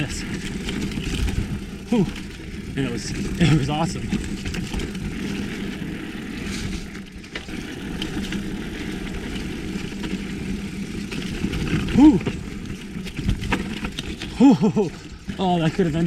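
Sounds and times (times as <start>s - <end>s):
bike rattling over bumps: 0.0s - 16.0s
bike tyres rolling: 0.0s - 16.0s.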